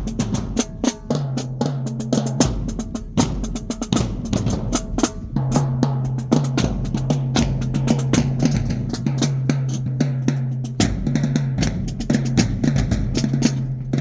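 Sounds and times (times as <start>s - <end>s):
snare and bass drum rhythm: 0.0s - 14.0s.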